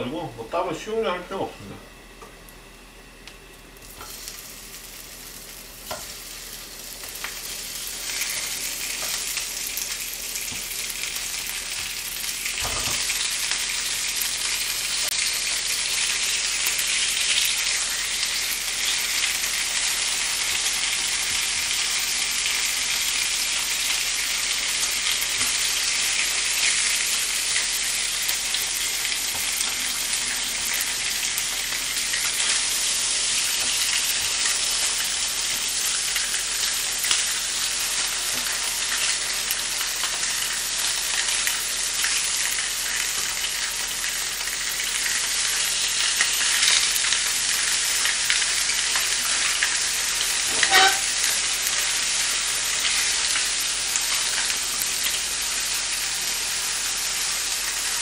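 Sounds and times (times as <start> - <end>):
meat sizzling in a frying pan: 2.6 - 58.0.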